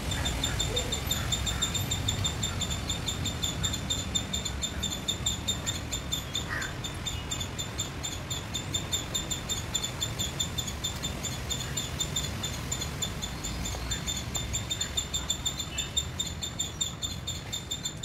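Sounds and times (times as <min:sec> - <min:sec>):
low rumble of wind: 0:00.0 - 0:18.0.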